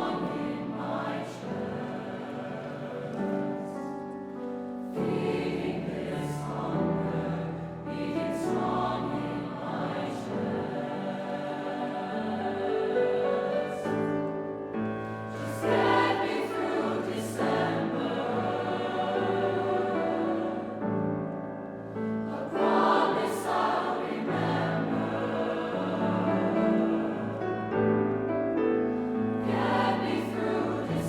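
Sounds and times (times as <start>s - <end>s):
choir singing: 0.0s - 31.0s.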